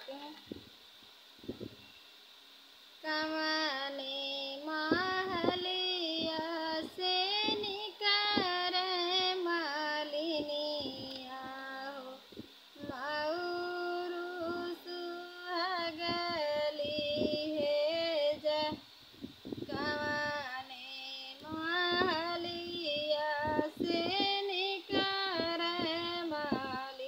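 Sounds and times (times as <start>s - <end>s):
woman singing unaccompanied: 3.0s - 18.9s, 19.6s - 27.0s.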